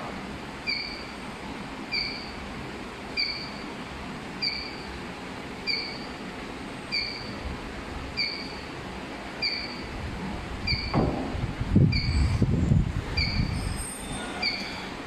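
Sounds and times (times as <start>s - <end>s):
low machine hum and hiss: 0.0s - 15.0s.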